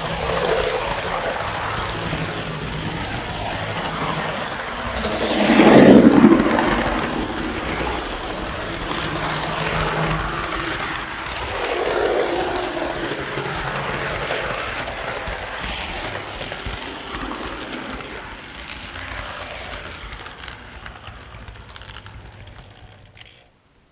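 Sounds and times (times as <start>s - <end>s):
model train wheels clattering on rail: 0.0s - 23.6s.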